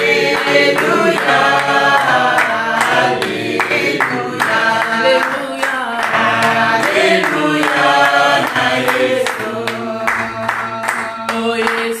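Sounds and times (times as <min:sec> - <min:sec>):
group singing a worship song: 0:00.0 - 0:12.0
hands clapping in time: 0:00.0 - 0:12.0.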